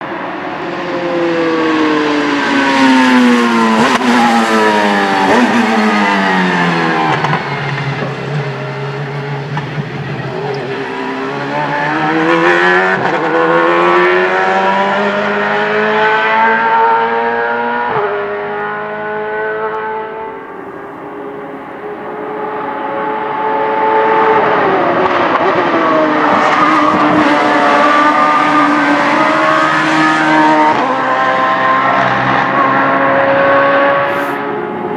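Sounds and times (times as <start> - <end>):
racing engine downshifting and accelerating: 0.0 - 34.9.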